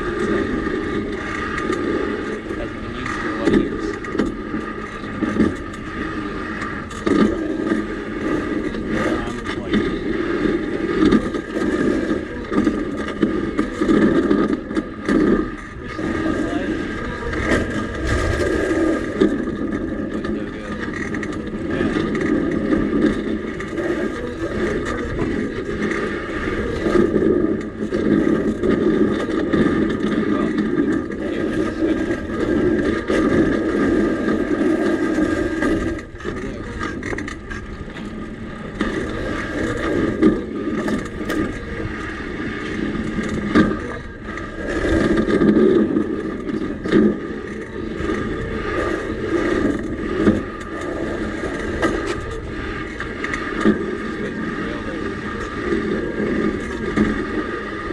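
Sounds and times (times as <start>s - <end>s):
wheels rumbling on rails: 0.0s - 57.9s.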